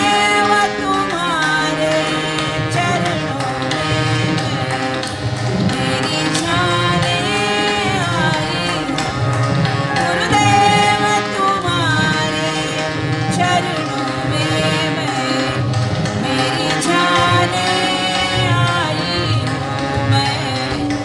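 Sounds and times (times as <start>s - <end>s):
tabla: 0.0s - 21.0s
woman singing: 0.0s - 21.0s.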